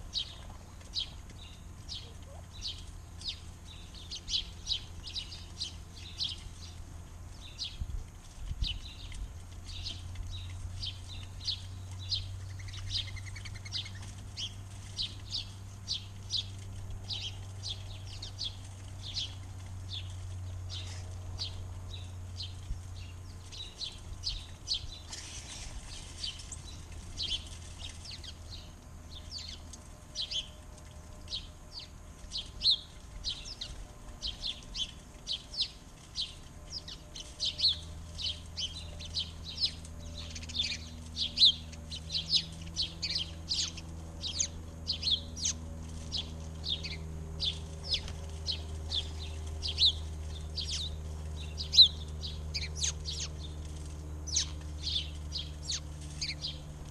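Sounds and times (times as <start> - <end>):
small birds chirping: 0.0 - 56.9
steady low hum: 0.0 - 56.9.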